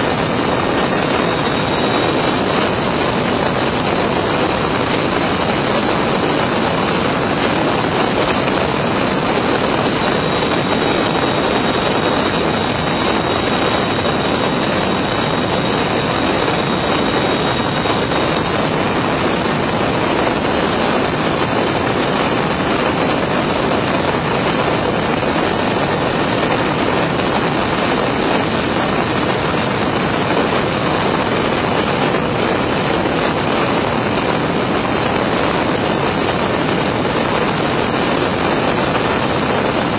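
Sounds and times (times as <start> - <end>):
aircraft rushing noise: 0.0 - 39.9.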